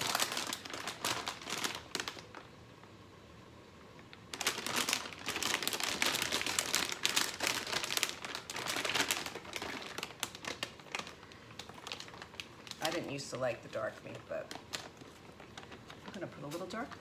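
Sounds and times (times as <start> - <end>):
plastic pouch crinkling: 0.0 - 2.6, 4.0 - 17.0.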